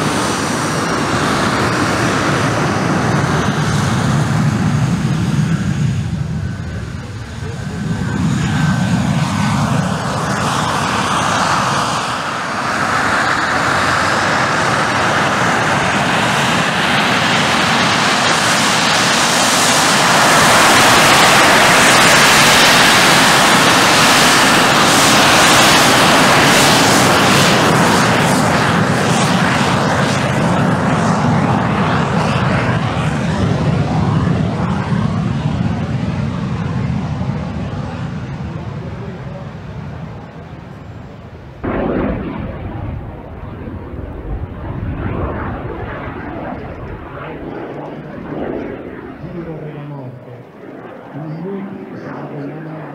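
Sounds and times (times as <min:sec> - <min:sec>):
jet engine whine: 0:00.0 - 0:52.9.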